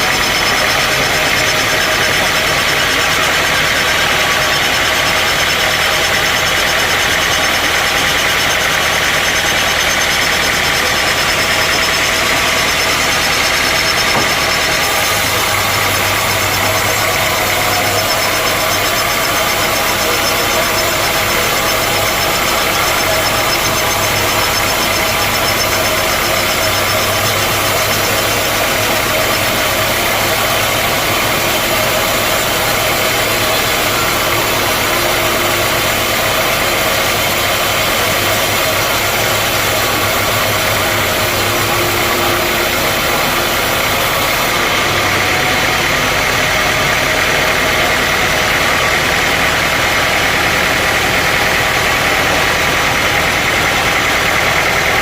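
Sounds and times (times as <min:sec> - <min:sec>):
low machine hum: 0:00.0 - 0:55.0
sawmill machinery running: 0:00.0 - 0:55.0.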